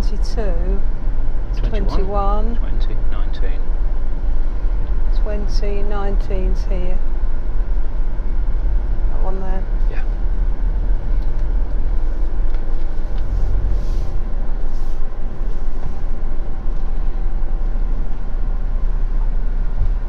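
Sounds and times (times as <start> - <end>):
motorhome engine rumbling: 0.0 - 20.0.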